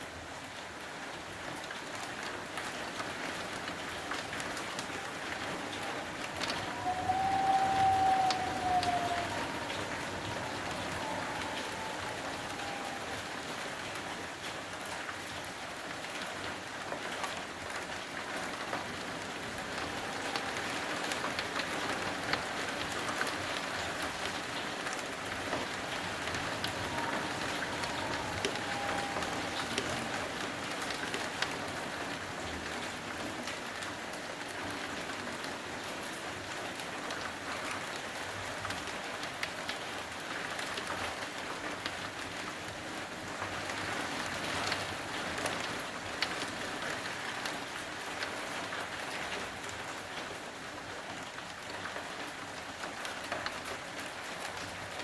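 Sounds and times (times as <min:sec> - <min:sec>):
heavy rain falling: 0:00.0 - 0:55.0
rain drops ticking: 0:00.0 - 0:55.0.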